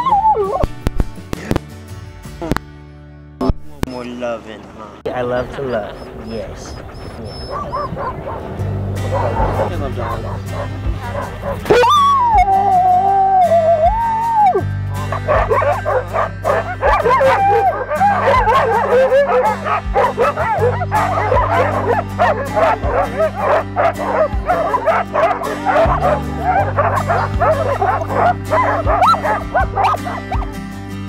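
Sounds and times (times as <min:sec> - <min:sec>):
sled dogs barking and howling: 0:00.0 - 0:00.8, 0:05.1 - 0:30.7
background music with bass: 0:00.0 - 0:31.0.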